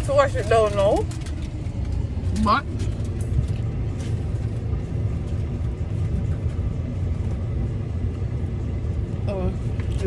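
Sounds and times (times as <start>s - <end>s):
car rumbling: 0.0s - 10.0s.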